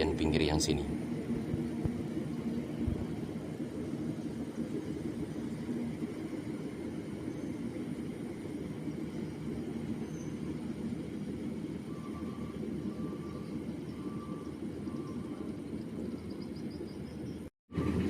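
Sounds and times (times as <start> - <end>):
combine harvester engine rumble: 0.0 - 18.0.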